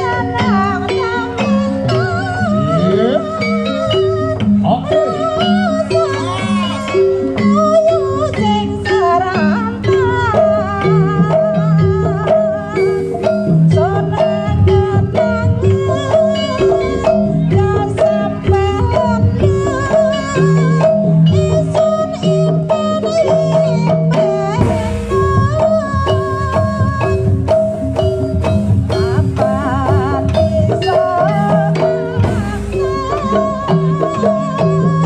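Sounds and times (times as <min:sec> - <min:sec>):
drum strokes: 0:00.0 - 0:35.0
metal percussion notes: 0:00.0 - 0:35.0
wavering melody line: 0:00.0 - 0:35.0.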